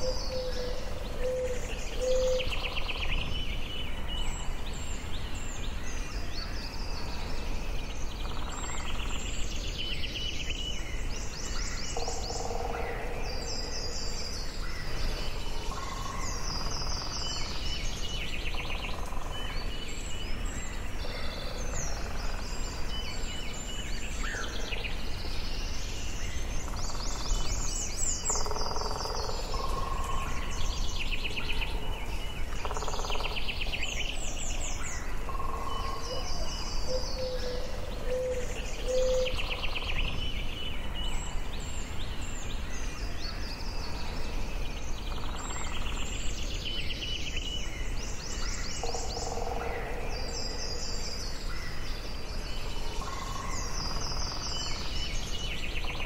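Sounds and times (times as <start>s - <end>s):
birds singing trills and whistles: 0.0s - 56.0s.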